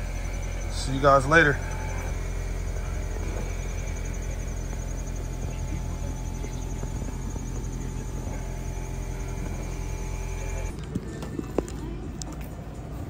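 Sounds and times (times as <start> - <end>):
insects chirring: 0.0 - 10.7
steady low hum: 0.0 - 13.0.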